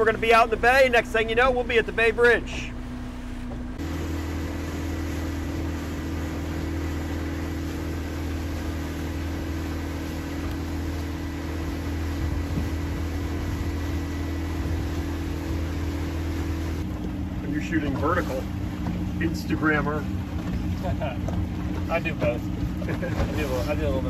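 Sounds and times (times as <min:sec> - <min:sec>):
boat engine droning: 0:00.0 - 0:24.0
water hissing along hull: 0:00.2 - 0:24.0.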